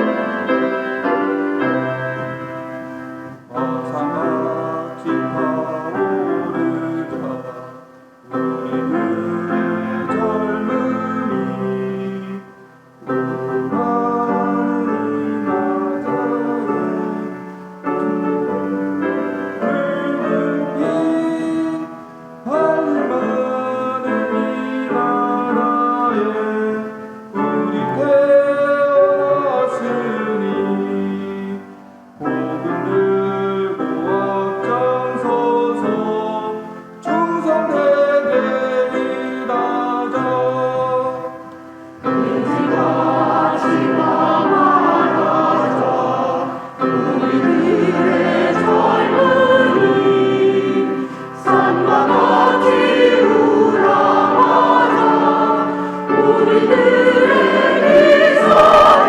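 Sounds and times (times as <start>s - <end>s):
keyboard accompaniment: 0.0s - 59.0s
worship song singing: 0.0s - 59.0s.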